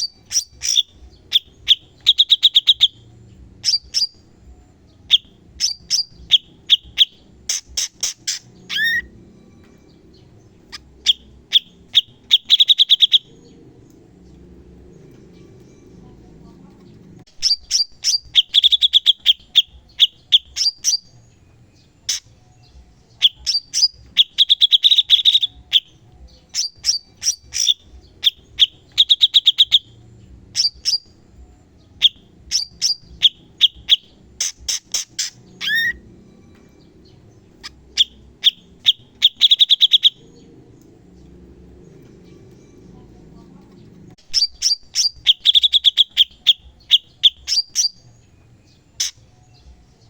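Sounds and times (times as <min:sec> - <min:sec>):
bird singing rapid high notes: 0:00.0 - 0:50.0.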